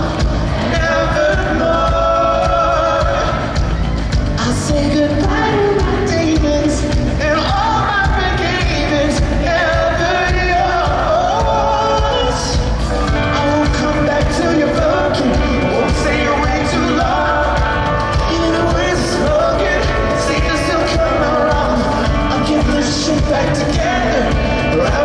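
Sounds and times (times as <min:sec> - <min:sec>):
live pop-rock band: 0:00.0 - 0:25.0
man singing: 0:00.0 - 0:25.0.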